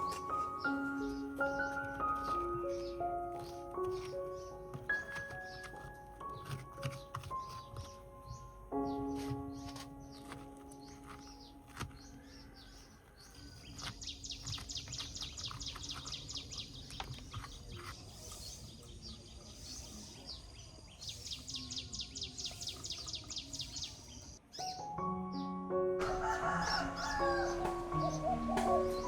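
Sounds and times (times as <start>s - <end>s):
birds chirping rapidly: 0.0s - 29.0s.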